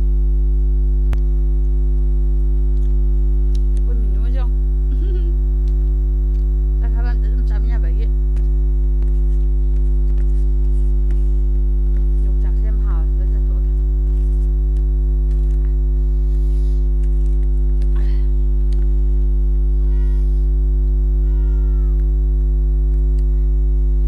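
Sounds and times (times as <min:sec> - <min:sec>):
loud electrical hum: 0:00.0 - 0:24.0.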